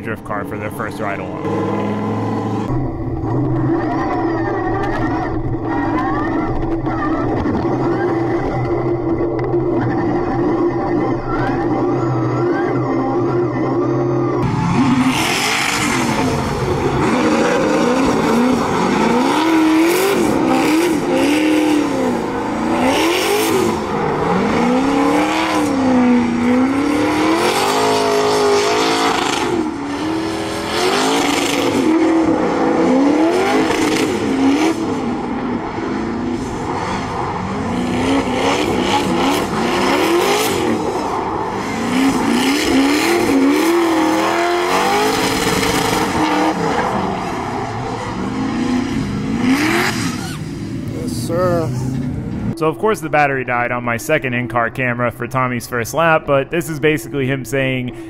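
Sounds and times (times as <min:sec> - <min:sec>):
car engine revving: 0:00.0 - 0:52.6.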